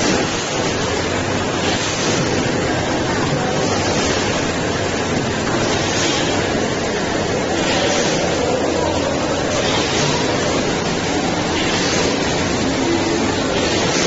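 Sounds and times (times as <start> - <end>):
factory machinery running: 0.0 - 14.0.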